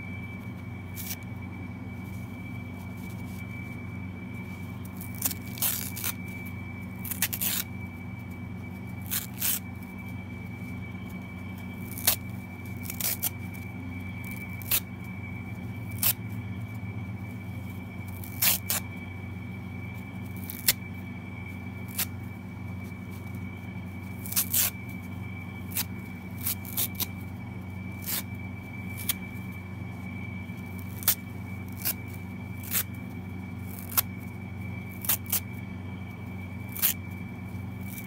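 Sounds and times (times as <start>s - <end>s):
low hum with high whine: 0.0s - 38.0s.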